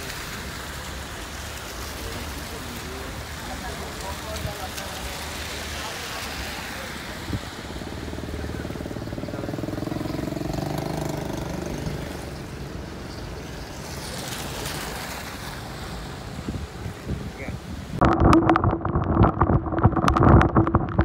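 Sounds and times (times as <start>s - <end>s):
tyres hissing through water: 0.0s - 18.0s.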